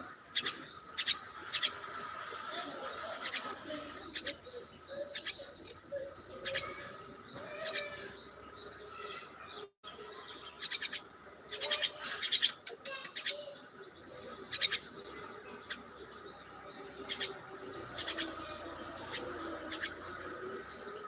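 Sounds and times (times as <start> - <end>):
myna chattering calls: 0.0 - 9.2, 10.0 - 16.0, 16.9 - 21.0.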